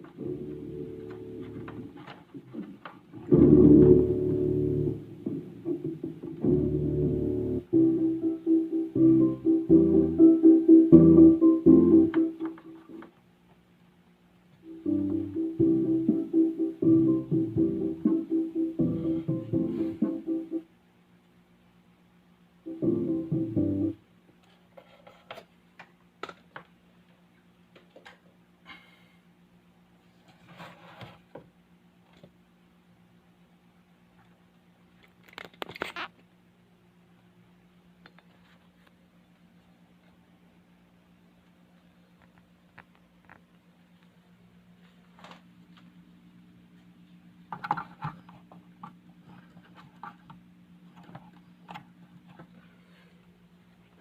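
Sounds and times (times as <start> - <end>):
electrical hum from speaker: 0.0 - 54.0.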